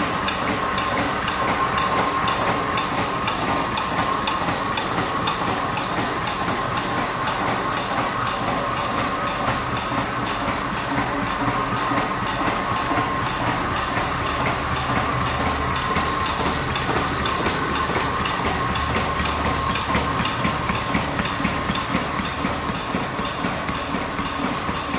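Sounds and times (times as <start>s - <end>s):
machine whine: 0.0s - 24.9s
printing machine clatter: 0.0s - 24.9s.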